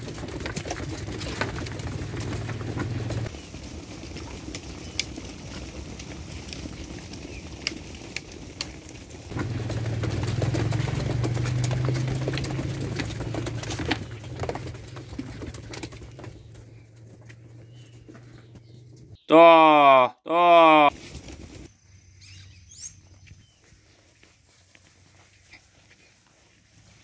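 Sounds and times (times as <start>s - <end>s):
sheep hooves tapping: 0.0s - 19.2s, 23.0s - 27.0s.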